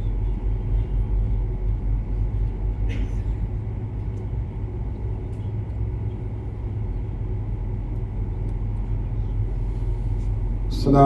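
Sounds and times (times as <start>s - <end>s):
faint hum: 0.0s - 11.0s
steady low rumble: 0.0s - 11.0s.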